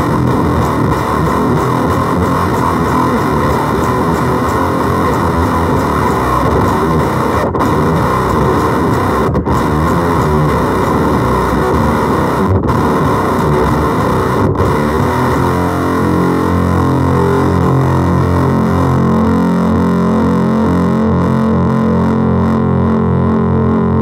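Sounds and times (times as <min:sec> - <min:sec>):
distorted fuzz electric guitar: 0:00.0 - 0:24.0.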